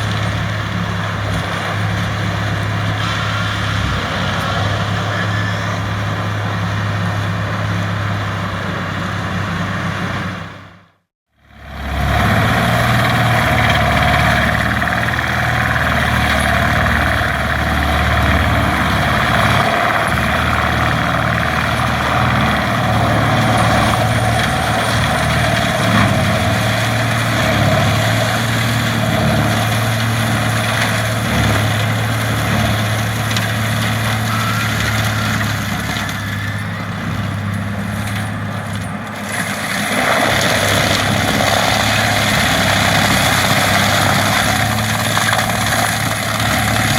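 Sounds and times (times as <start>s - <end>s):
forestry mulcher running: 0.0s - 10.7s, 11.4s - 46.9s
tractor engine drone: 0.0s - 46.9s.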